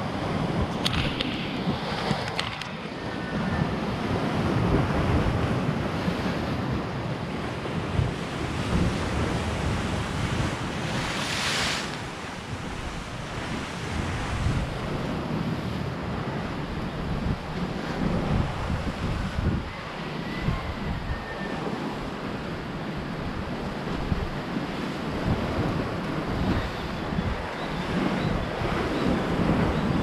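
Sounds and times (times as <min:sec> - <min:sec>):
surf breaking on shore: 0:00.0 - 0:30.0
wind buffeting microphone: 0:00.0 - 0:30.0.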